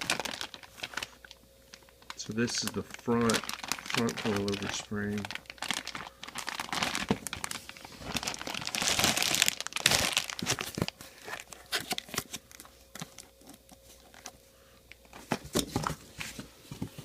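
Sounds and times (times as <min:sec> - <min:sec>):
packing material crinkling: 0:00.0 - 0:14.4.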